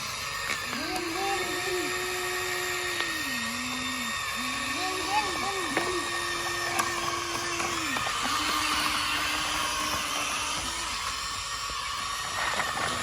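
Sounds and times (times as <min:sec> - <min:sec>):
excavator motor whine: 0:00.0 - 0:13.0.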